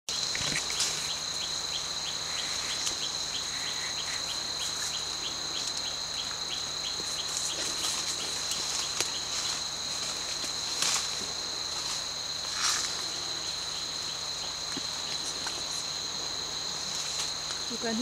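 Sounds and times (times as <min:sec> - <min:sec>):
insects droning: 0:00.1 - 0:18.0.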